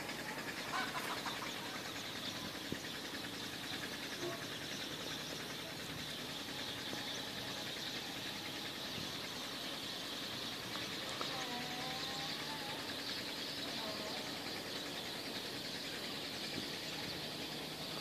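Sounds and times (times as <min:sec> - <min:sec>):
pump engine drone: 0:00.0 - 0:18.0
steady high hiss: 0:00.0 - 0:18.0.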